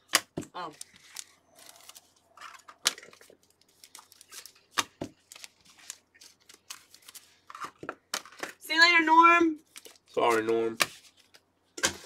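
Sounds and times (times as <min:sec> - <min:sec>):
trading cards rustling and snapping: 0:00.0 - 0:08.6, 0:09.6 - 0:12.0.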